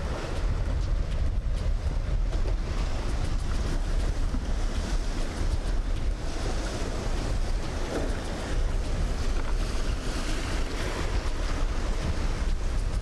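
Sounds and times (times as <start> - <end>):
boat spray: 0.0 - 13.0
breaking surf: 0.0 - 13.0
outboard engines running: 0.0 - 13.0
wind buffeting microphone: 0.0 - 13.0.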